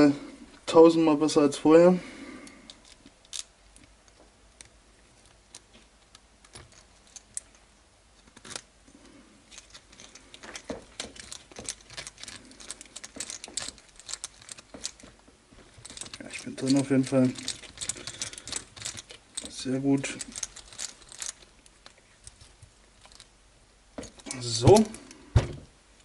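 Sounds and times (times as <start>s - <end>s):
plastic parts clicking and rattling: 2.4s - 25.7s.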